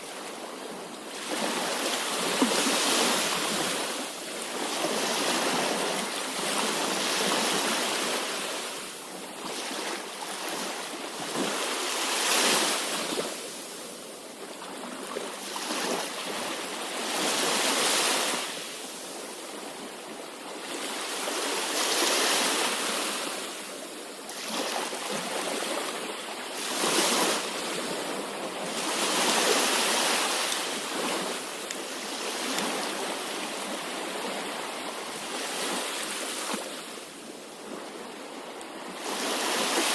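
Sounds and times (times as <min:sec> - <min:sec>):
sea waves breaking: 0:00.0 - 0:13.7, 0:14.7 - 0:18.7, 0:24.3 - 0:39.9.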